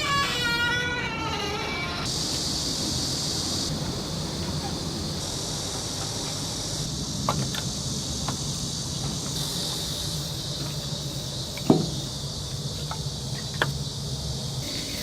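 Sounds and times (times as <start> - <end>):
steady hiss and low hum: 1.5 - 15.0.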